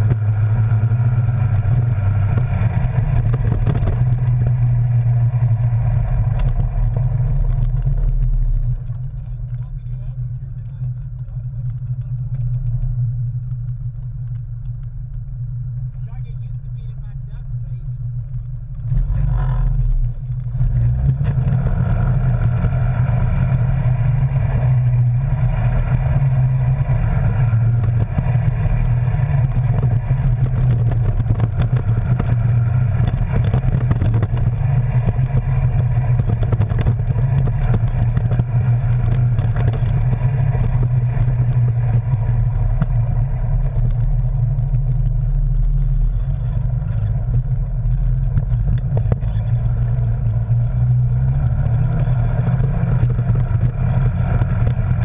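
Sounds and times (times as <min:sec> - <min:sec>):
off-road vehicle engine: 0:00.0 - 0:55.0
vehicle clattering over bumpy trail: 0:00.0 - 0:55.0.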